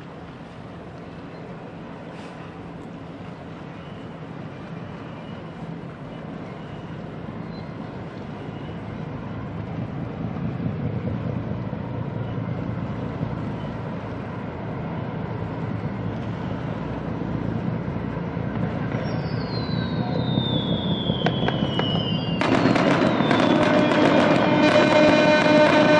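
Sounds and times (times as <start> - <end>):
low rumble of hull sliding: 0.0 - 25.9.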